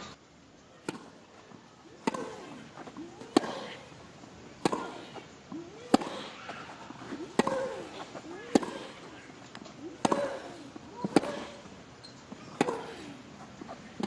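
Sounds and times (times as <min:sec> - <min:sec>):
tennis ball struck by rackets: 0:00.8 - 0:01.2, 0:01.9 - 0:14.0.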